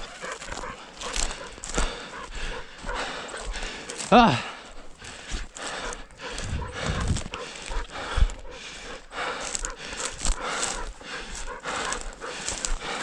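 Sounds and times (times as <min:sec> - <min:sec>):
footsteps crunching through dry grass: 0:00.0 - 0:13.0
heavy breathing: 0:00.0 - 0:13.0.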